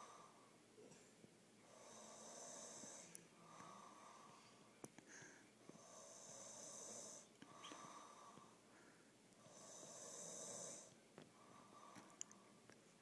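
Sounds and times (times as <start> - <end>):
person snoring softly: 0.0 - 1.0, 1.6 - 12.6
faint breath: 0.0 - 12.6.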